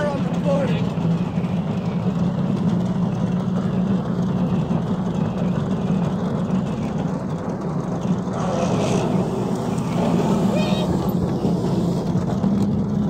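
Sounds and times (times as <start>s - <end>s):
truck engine and tyres on asphalt: 0.0s - 13.0s.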